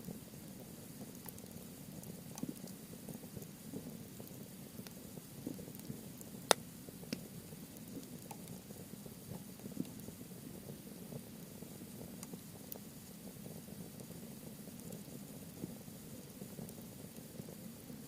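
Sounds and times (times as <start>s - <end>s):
campfire flame rumble: 0.0s - 18.0s
fire crackling: 0.0s - 18.0s.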